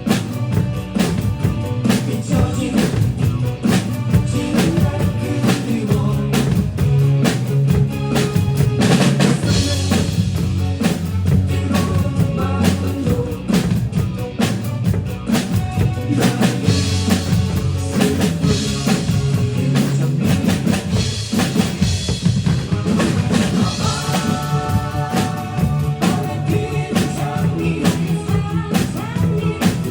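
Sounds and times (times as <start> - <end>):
band track with bass line: 0.0 - 29.9
drum kit steady beat: 0.0 - 29.9.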